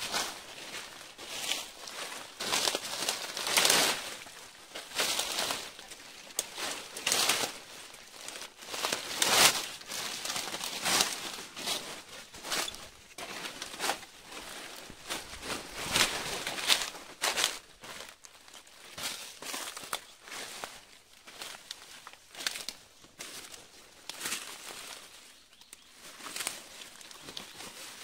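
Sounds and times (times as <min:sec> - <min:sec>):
leaves and undergrowth rustling: 0:00.0 - 0:28.0.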